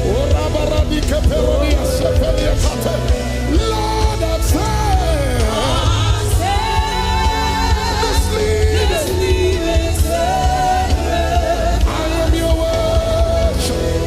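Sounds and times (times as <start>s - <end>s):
bass-heavy band accompaniment: 0.0s - 14.0s.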